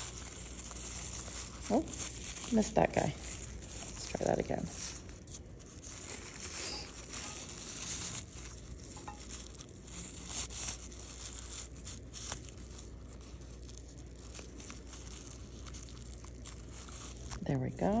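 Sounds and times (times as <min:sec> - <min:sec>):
plastic strip crinkling: 0:00.0 - 0:18.0
steady low hum: 0:00.0 - 0:18.0.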